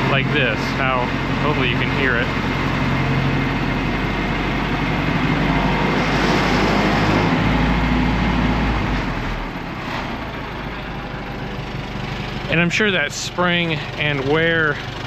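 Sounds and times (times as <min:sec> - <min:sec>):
engine revving and idling: 0:00.0 - 0:15.0.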